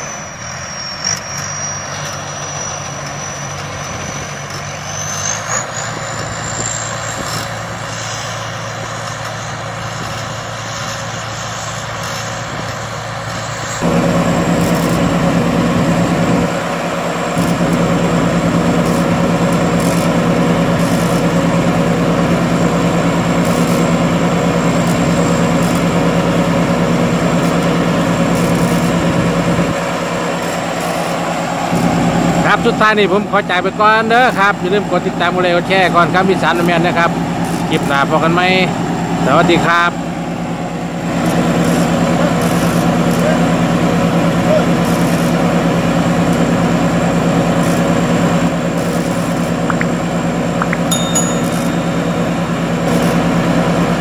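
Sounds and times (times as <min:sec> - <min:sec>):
harvester engine running: 0:00.0 - 0:54.0
thin high whine: 0:00.0 - 0:54.0.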